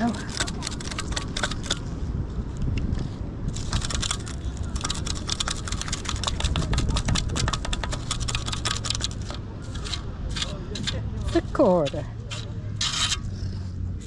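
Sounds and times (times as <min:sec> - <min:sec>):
wet sand rattling in a scoop: 0:00.0 - 0:02.0, 0:03.5 - 0:13.2.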